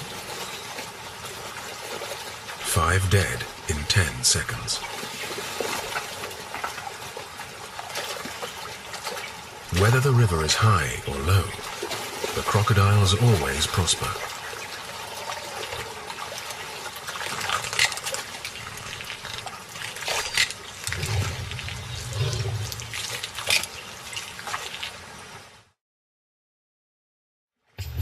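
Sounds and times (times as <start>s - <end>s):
animals thrashing in water: 0.0s - 25.6s
river water splashing and churning: 0.0s - 25.8s.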